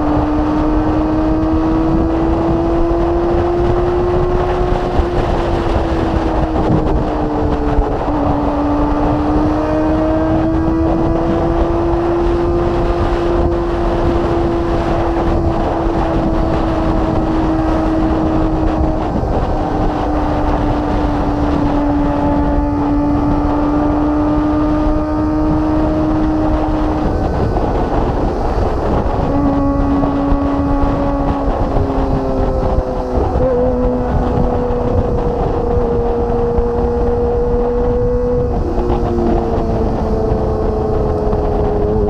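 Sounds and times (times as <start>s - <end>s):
motorcycle engine running: 0.0s - 42.0s
wind rush on microphone: 0.0s - 42.0s.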